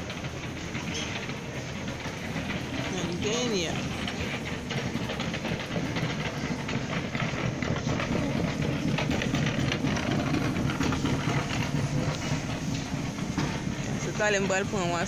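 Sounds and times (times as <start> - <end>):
stroller wheels rolling: 0.0 - 15.0.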